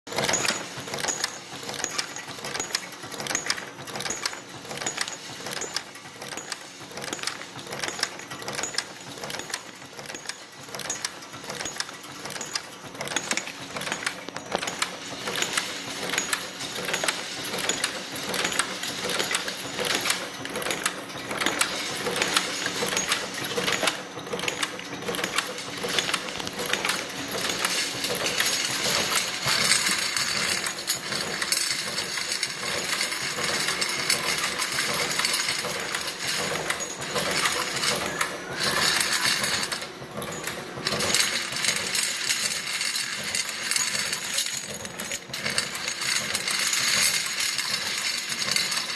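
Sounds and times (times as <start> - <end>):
metal cases rattling and clinking: 0.1 - 48.9.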